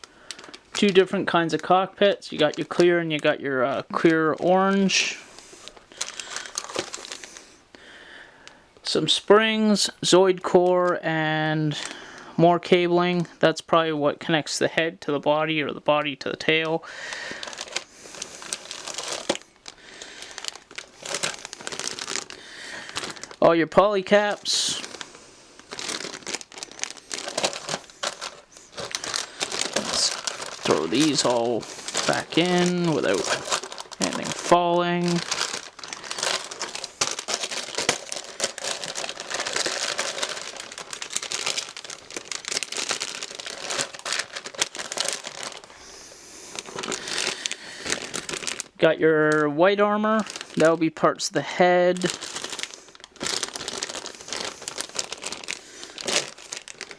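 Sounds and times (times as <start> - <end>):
plastic bags crinkling: 0.0 - 9.0, 16.4 - 51.0, 51.6 - 56.9.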